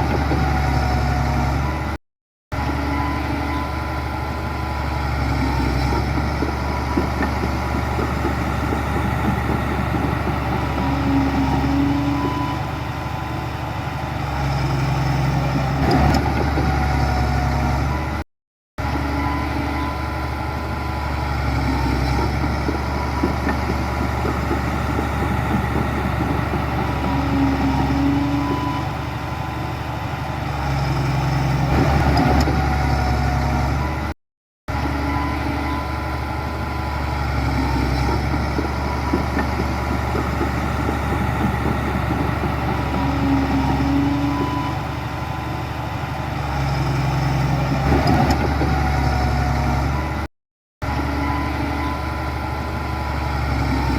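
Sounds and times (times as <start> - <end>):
heavy diesel engine running: 0.0 - 18.2, 18.8 - 53.9.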